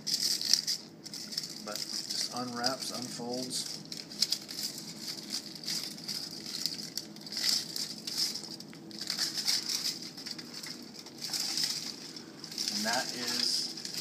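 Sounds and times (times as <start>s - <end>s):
foil wrapping crinkling: 0.0s - 14.0s.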